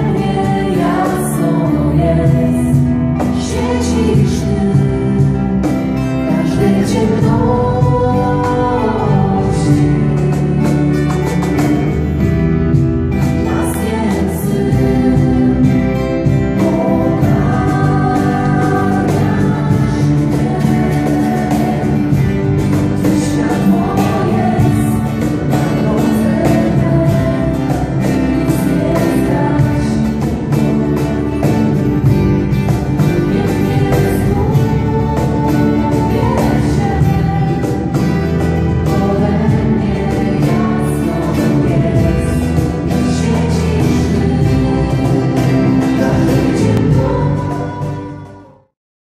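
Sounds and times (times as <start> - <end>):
voices singing together: 0.0 - 12.2, 13.2 - 48.7
keyboard: 0.0 - 48.7
strummed guitars: 0.0 - 48.7.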